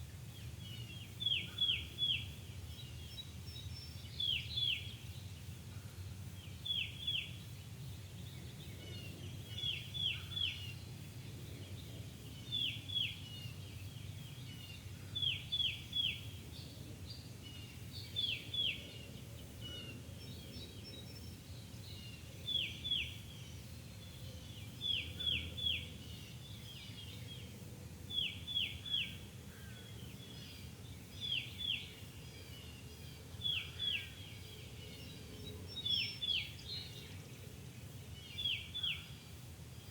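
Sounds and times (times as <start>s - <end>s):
songbird singing downslurred notes: 0.0s - 5.6s, 6.3s - 39.9s.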